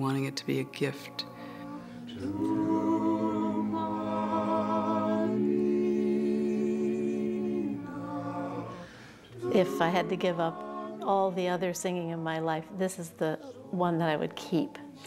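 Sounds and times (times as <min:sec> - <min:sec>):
a cappella chorus singing: 0:00.1 - 0:15.0.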